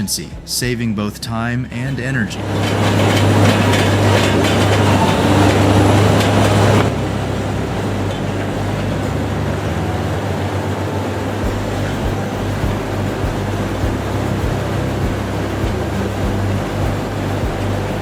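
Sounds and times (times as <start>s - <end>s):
tie cutting machine grinding: 2.0s - 18.0s.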